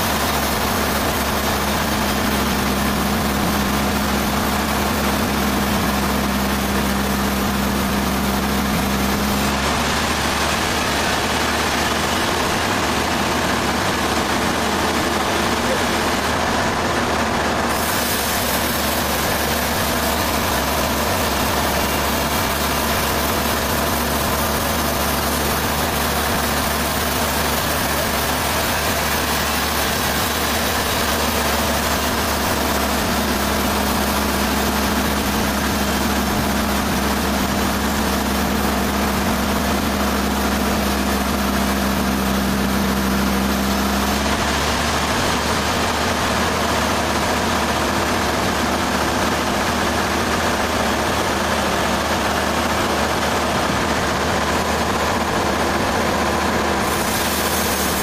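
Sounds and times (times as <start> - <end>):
sawmill machinery running: 0.0 - 58.0
steady low hum: 0.0 - 58.0.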